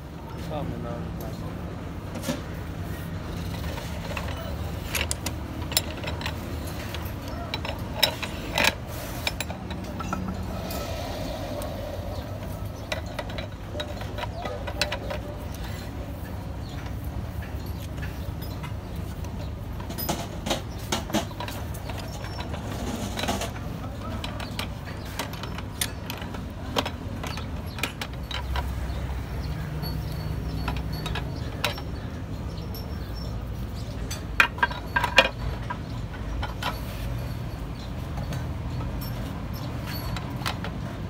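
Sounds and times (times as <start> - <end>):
metal gear parts clinking: 3.2 - 41.0.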